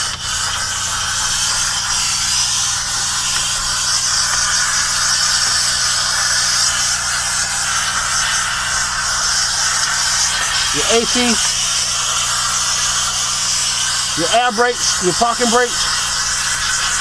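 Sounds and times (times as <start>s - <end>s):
steam cleaner hissing: 0.0s - 17.0s.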